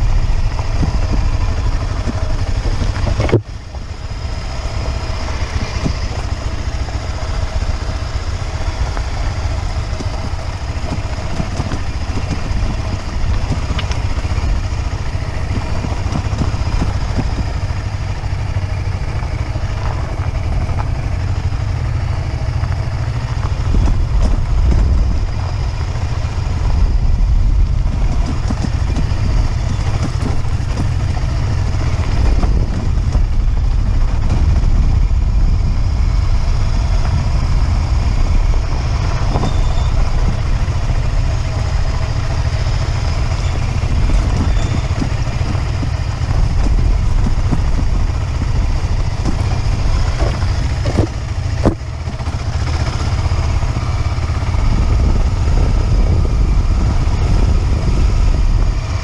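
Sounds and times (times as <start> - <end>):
low rumble on microphone: 0.0 - 59.0
motorcycle engine running: 0.0 - 59.0.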